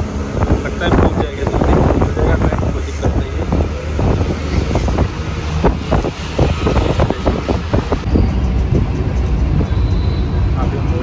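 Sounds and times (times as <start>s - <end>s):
wind buffeting microphone: 0.0s - 9.7s
vehicle low rumble: 0.0s - 11.0s.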